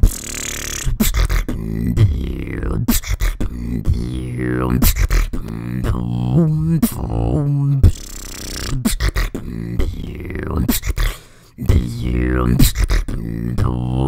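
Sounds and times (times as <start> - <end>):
vocal beatboxing: 0.0 - 14.0.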